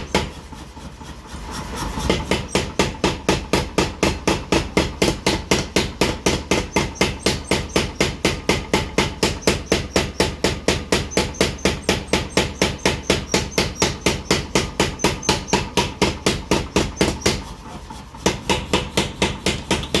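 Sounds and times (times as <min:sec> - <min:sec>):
power hammer striking: 0:02.1 - 0:17.5, 0:18.2 - 0:20.0.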